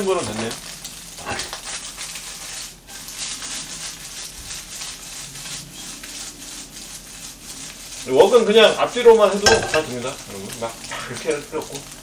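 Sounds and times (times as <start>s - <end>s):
eggs sizzling in a wok: 0.0s - 12.0s
spatula scraping a wok: 0.0s - 12.0s.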